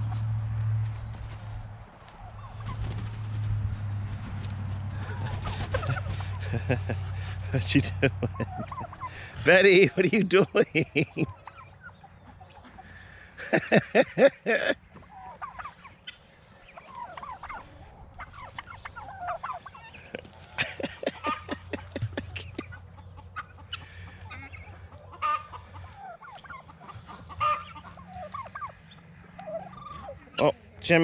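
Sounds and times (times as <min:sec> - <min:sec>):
chickens clucking and squawking: 0:01.5 - 0:31.0.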